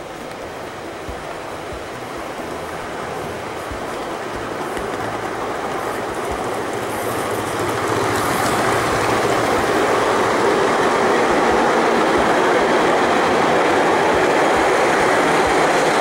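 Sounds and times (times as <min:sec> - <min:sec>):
model train wheels rumbling on rails: 0:00.0 - 0:16.0.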